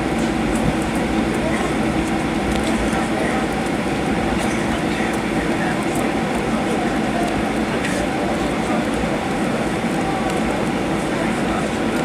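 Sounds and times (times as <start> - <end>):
jet engines and airflow in cabin: 0.0 - 12.0.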